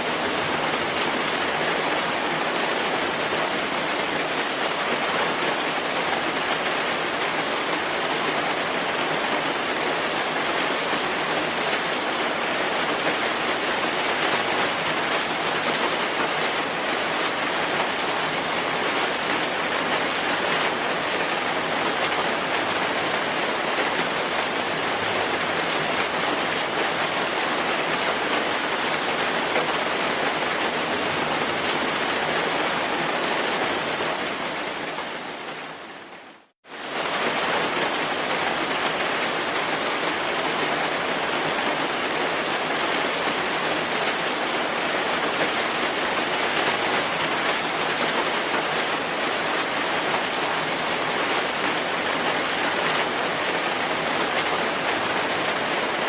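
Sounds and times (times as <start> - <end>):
dense rainfall: 0.0 - 56.0.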